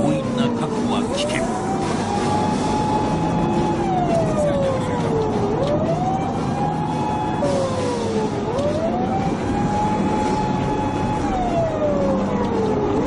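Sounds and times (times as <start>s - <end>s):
car running noise: 0.0s - 13.0s
police siren wailing: 0.0s - 13.0s.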